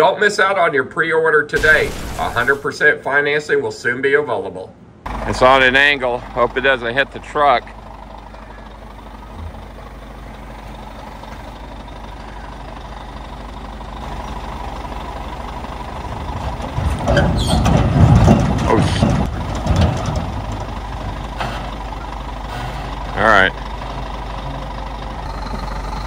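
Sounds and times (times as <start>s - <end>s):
diesel lorry and crane idling: 4.8s - 26.0s
engine knocks: 5.1s - 26.0s.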